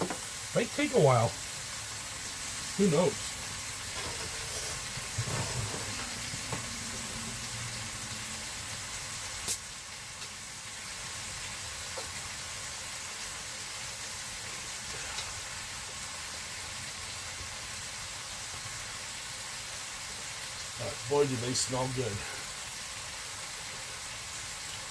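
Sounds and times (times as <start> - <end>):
frozen food sizzling: 0.0 - 24.9.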